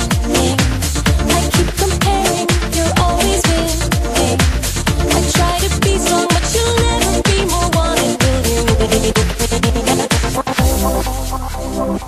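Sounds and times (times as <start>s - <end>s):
steady kick drum: 0.0s - 11.8s
dance music: 0.0s - 12.0s.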